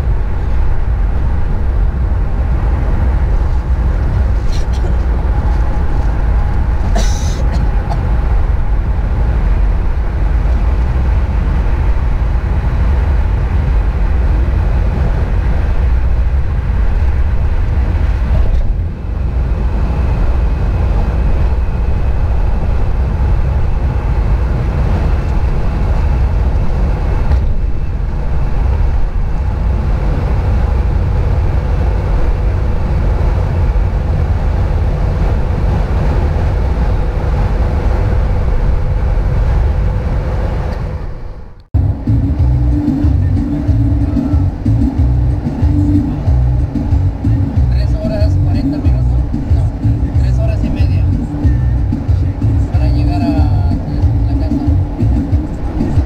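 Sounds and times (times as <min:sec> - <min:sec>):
road and engine rumble in car cabin: 0:00.0 - 0:56.0.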